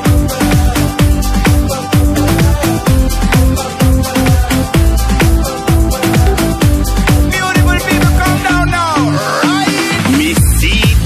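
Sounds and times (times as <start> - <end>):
electronic dance music: 0.7 - 11.0.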